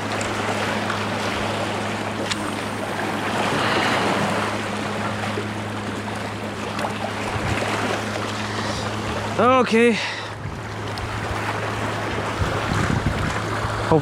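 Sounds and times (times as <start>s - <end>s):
sea waves washing on shore: 0.0s - 14.0s
wind: 0.0s - 14.0s.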